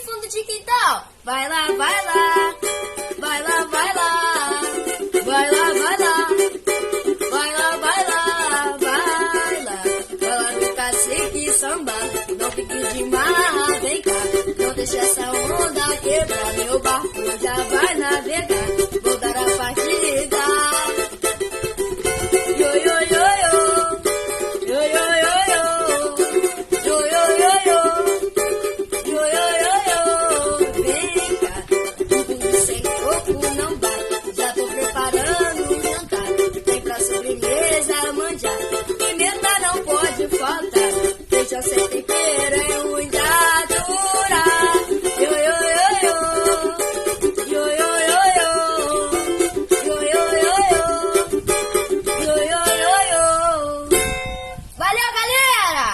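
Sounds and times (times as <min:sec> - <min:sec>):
strummed cavaquinho: 0:00.0 - 0:55.9
voices singing: 0:01.2 - 0:21.2, 0:22.3 - 0:54.0.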